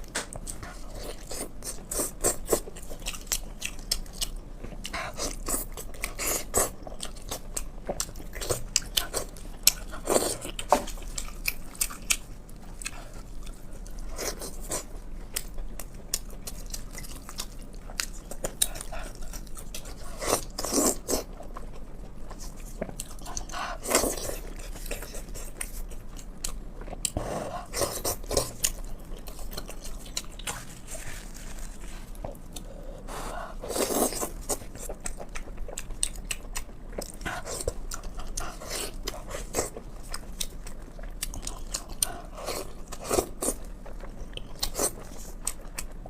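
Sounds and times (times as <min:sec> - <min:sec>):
person chewing with wet clicks: 0:00.0 - 0:32.8, 0:33.6 - 0:46.0.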